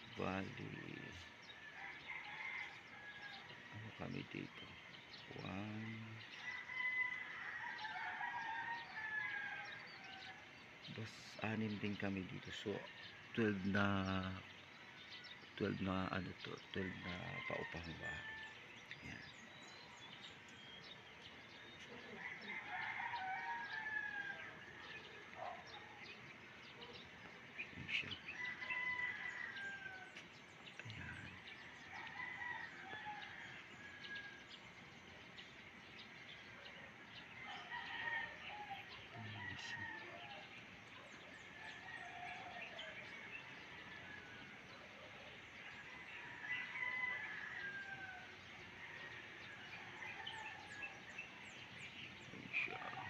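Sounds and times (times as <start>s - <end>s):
small birds chirping: 0.0s - 53.0s
roosters crowing: 0.2s - 14.5s, 15.2s - 53.0s.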